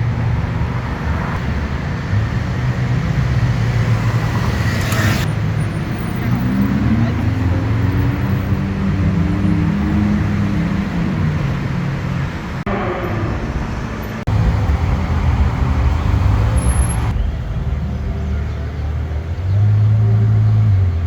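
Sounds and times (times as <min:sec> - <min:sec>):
sports car engines running: 0:00.0 - 0:21.0.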